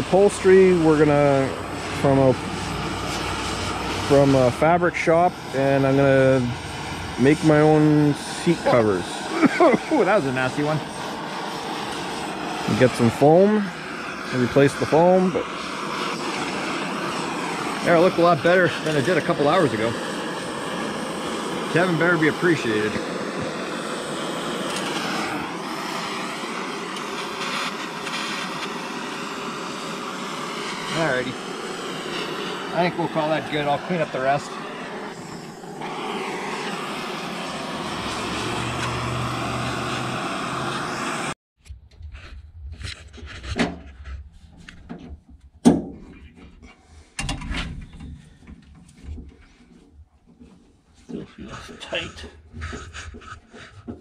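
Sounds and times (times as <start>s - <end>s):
gas torch hissing: 0.0s - 41.4s, 51.0s - 54.0s.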